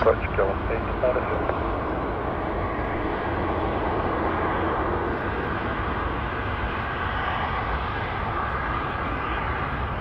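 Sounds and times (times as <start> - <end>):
jet engine noise: 0.0 - 10.0.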